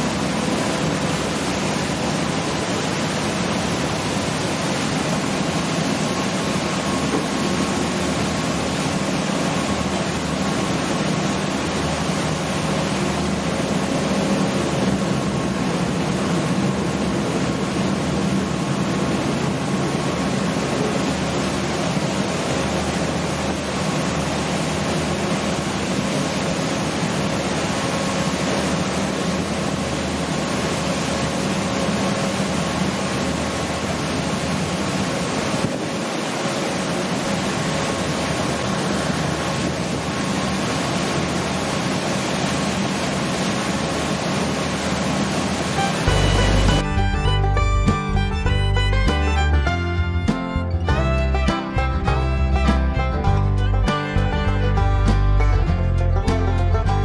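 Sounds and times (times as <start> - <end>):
ferry engines humming: 0.0 - 57.0
rushing water: 0.0 - 57.0
wind: 0.0 - 57.0.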